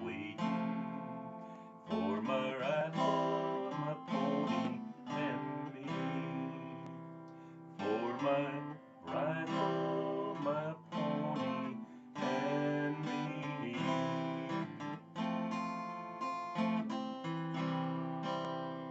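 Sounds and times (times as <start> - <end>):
acoustic guitar strumming chords: 0.0 - 18.9.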